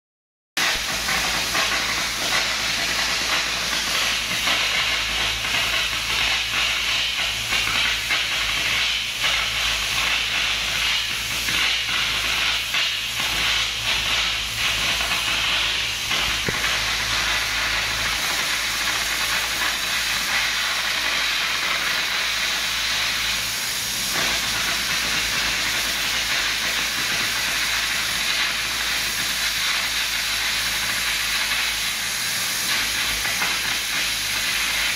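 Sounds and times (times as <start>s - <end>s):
cutting torch hissing and crackling: 0.6s - 34.9s.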